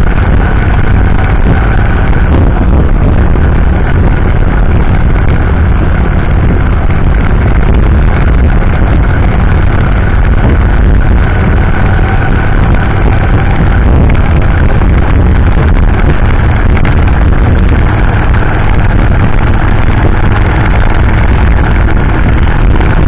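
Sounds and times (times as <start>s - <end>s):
faint steady whine: 0.0s - 23.0s
motorcycle engine cruising: 0.0s - 23.0s
rush of wind: 0.0s - 23.0s.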